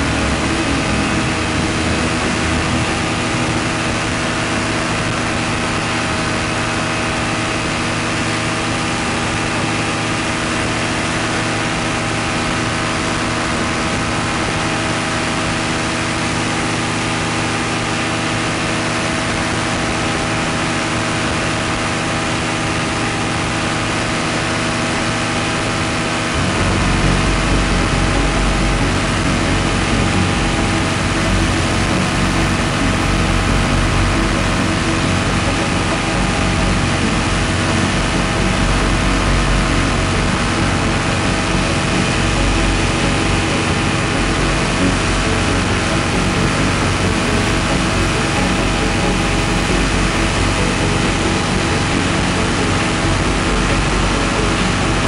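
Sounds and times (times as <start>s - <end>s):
deep loud rumble: 0.0s - 55.0s
paramotor engine drone: 0.0s - 55.0s.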